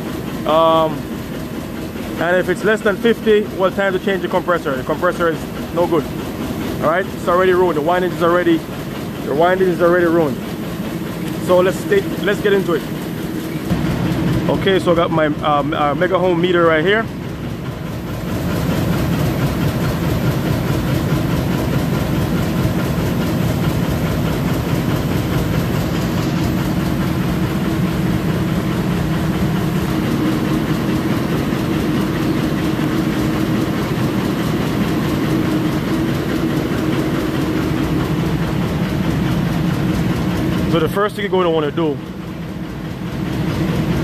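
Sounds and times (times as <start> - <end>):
machinery droning: 0.0 - 44.0.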